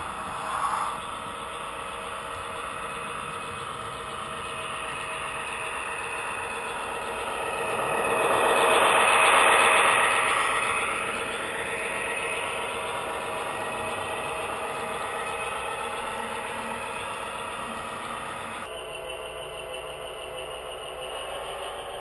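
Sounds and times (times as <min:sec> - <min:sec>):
model locomotive engine sound: 0:00.0 - 0:22.0
model train wheels on track: 0:00.0 - 0:22.0.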